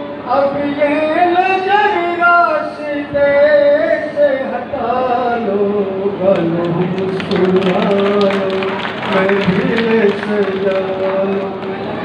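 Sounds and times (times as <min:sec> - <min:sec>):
man singing unaccompanied: 0:00.2 - 0:11.7.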